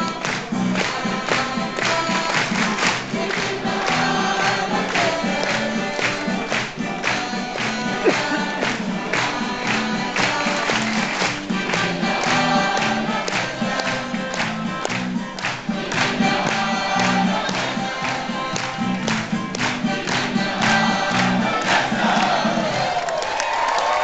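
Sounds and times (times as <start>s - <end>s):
backing music with steady beat: 0.0s - 23.0s
group of people singing: 0.0s - 23.1s.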